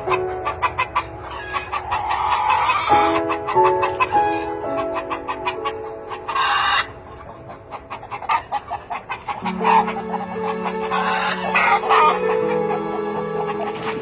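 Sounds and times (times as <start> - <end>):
background music: 0.0 - 14.0
chickens squawking and clucking: 0.0 - 14.0.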